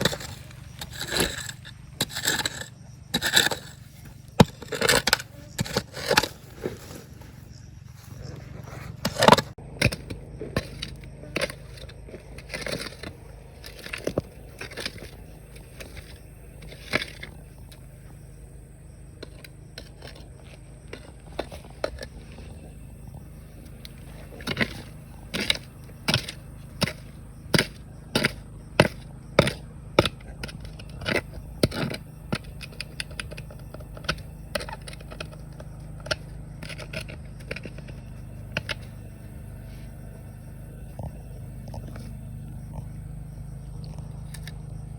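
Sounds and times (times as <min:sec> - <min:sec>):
tool scraping rocks and gravel: 0:00.0 - 0:44.9
steady low rumble: 0:06.3 - 0:44.9.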